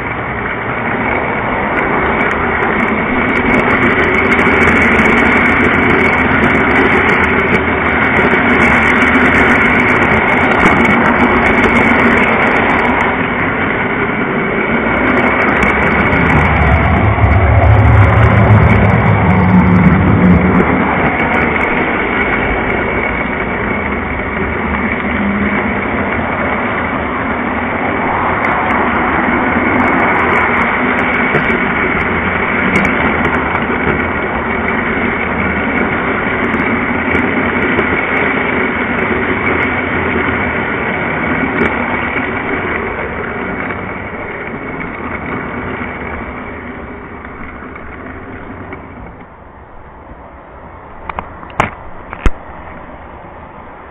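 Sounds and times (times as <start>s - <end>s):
model train rumbling on track: 0.0s - 53.9s.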